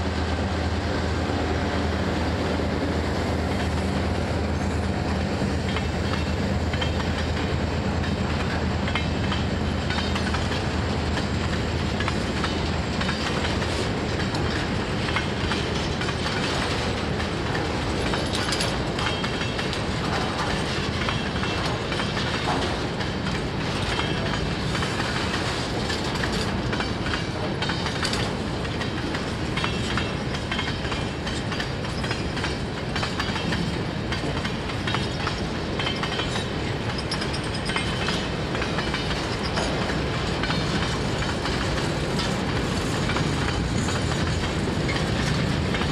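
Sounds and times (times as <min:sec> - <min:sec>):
train wheels clacking over rail joints: 0:00.0 - 0:45.9.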